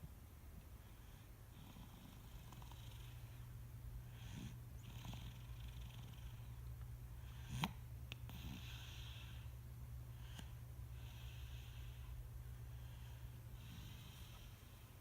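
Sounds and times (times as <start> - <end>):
girl snoring softly: 0.9 - 6.6, 7.2 - 14.8.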